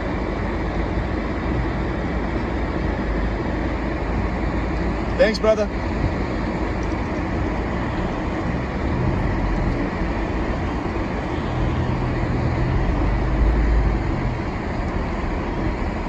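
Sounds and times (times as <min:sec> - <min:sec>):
deeper engine hum: 0:00.0 - 0:16.0
vehicle engine drone: 0:00.0 - 0:16.0.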